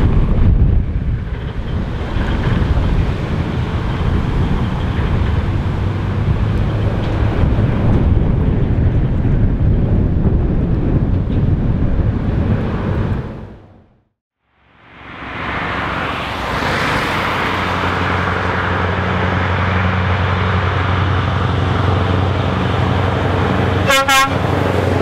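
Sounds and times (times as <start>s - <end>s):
deep truck engine and exhaust: 0.0s - 25.0s.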